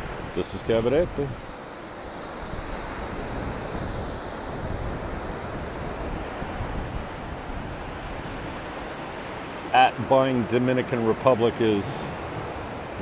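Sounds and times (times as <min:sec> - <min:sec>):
wind on microphone: 0:00.0 - 0:10.9
ocean surf washing onto beach: 0:00.0 - 0:13.0.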